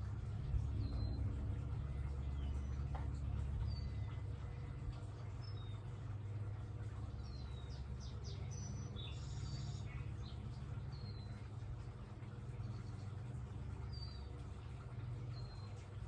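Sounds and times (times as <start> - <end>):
songbirds chirping: 0.0 - 16.0
steady low hum: 0.0 - 16.0.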